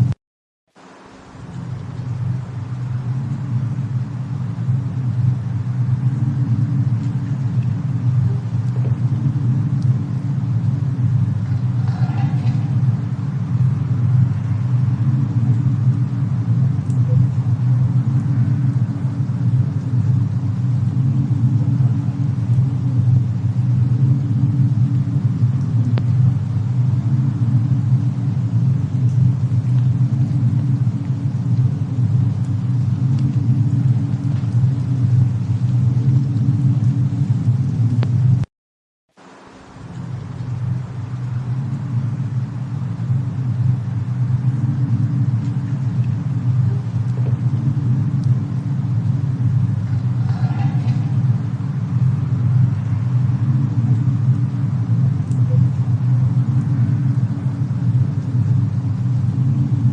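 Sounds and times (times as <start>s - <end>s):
low rumble of storm and fireplace: 0.0s - 38.5s, 39.1s - 59.9s.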